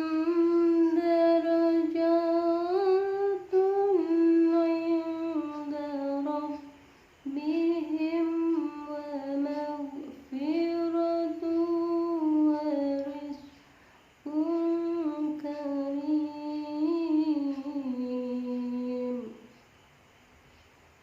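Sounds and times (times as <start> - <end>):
person reciting melodically: 0.0 - 13.6, 14.2 - 19.6.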